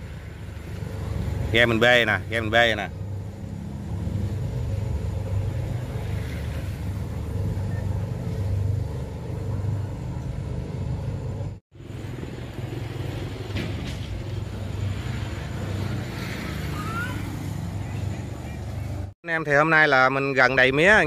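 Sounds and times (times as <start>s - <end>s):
boat engine rumbling: 0.0s - 19.1s.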